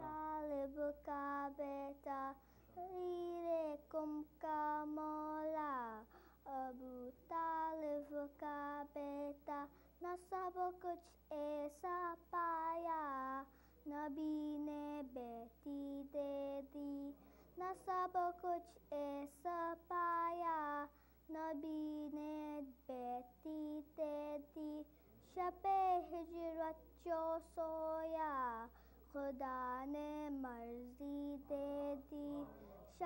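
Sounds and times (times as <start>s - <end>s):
boy singing unaccompanied: 0.0s - 33.0s.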